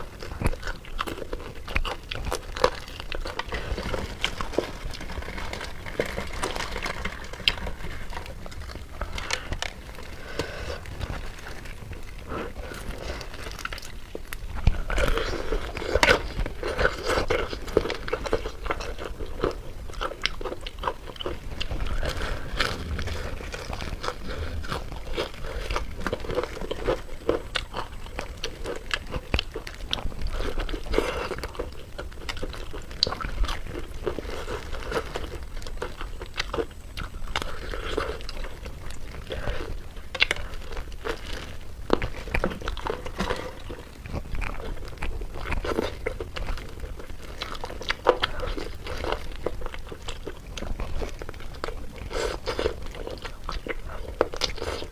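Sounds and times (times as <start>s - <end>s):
person chewing crunchy food: 0.0s - 54.9s.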